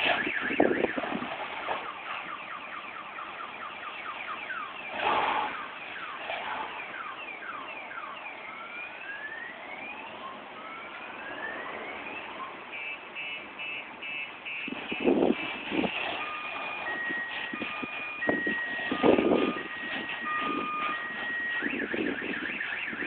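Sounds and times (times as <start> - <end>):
electronic alarm siren: 0.0 - 23.0.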